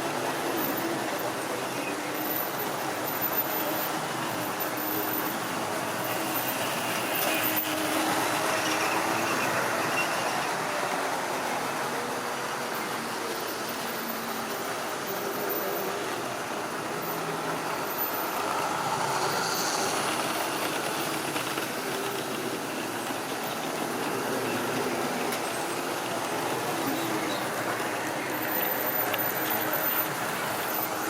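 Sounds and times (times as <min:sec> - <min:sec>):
model train rolling on track: 0:00.0 - 0:31.0.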